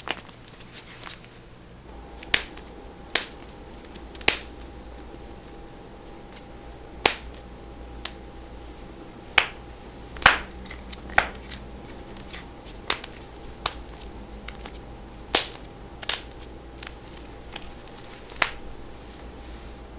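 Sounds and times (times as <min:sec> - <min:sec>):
faint steady hum: 0:00.0 - 0:19.9.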